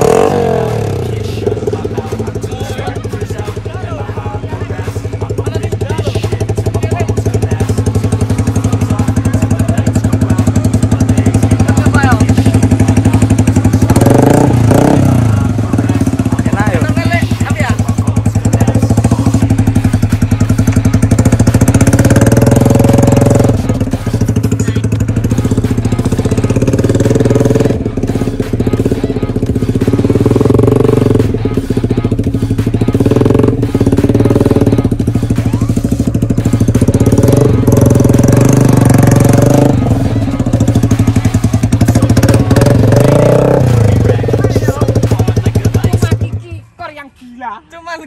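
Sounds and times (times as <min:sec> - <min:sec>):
motorcycle engine revving: 0:00.0 - 0:46.6.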